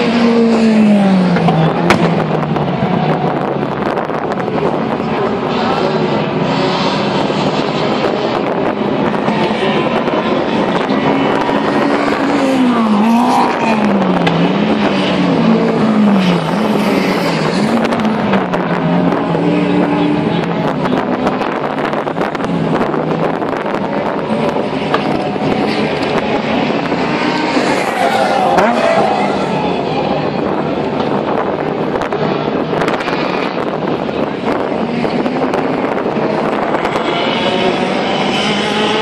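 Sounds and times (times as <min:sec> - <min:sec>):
car engine revving: 0:00.0 - 0:39.0
crowd noise: 0:00.0 - 0:39.0.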